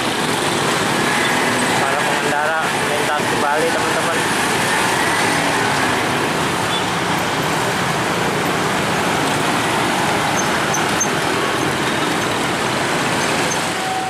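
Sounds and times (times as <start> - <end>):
dense street traffic: 0.0 - 14.0.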